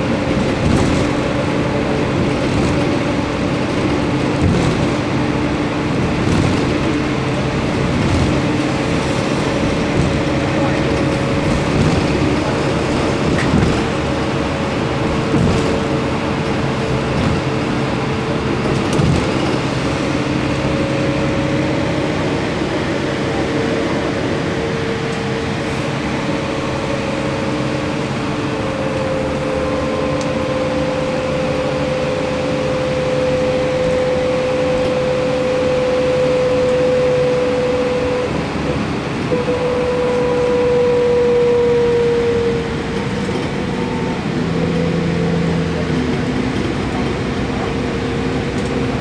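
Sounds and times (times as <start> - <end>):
road and engine drone: 0.0 - 49.0
vehicle whine: 0.0 - 49.0.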